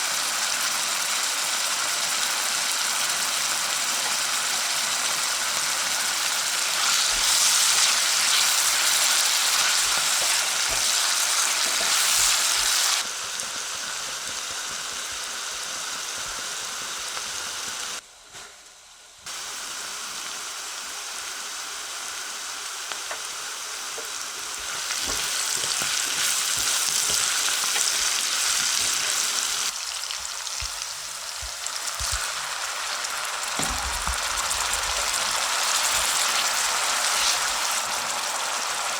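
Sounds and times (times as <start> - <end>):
food sizzling in a frying pan: 0.0 - 18.0, 19.3 - 38.9.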